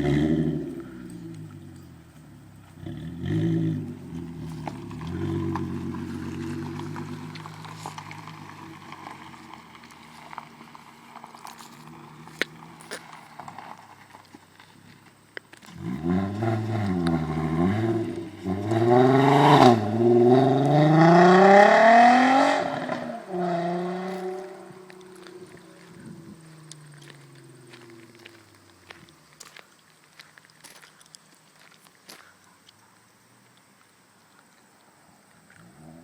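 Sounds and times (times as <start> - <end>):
car engine idling and revving: 0.0 - 29.7, 35.0 - 36.0.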